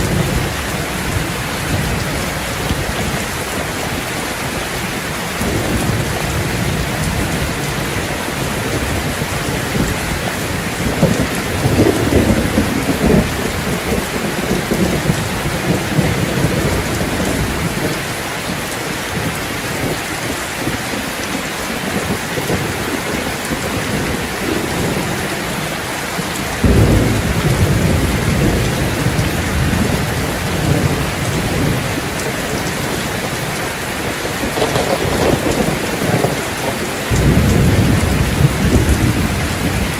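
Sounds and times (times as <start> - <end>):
rolling thunder: 0.0 - 4.0, 5.4 - 18.2, 19.1 - 39.9
steady rain: 0.0 - 39.9.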